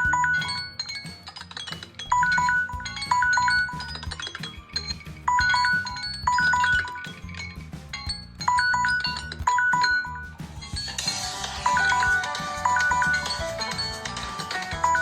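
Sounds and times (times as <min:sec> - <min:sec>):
chime-like ringtone melody: 0:00.0 - 0:15.0.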